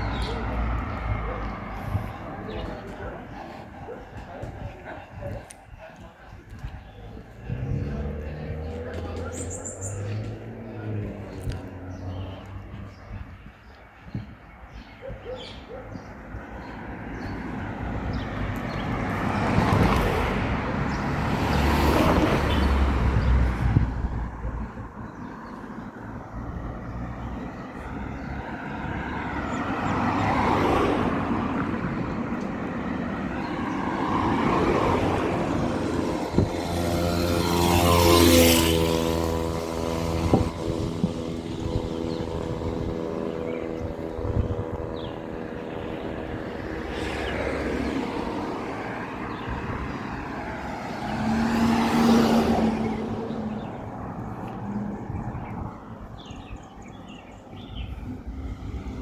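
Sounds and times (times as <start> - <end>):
road vehicles passing: 0.0 - 59.0.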